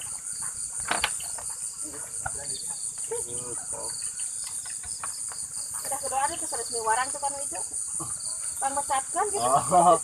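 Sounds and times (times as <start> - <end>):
night insects chirring: 0.0 - 10.0.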